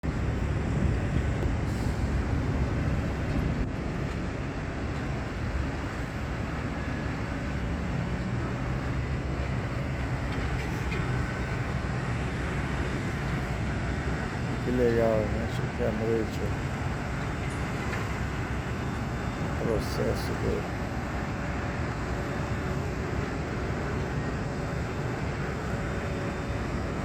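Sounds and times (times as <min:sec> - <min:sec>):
heavy machinery rumbling: 0:00.0 - 0:27.0.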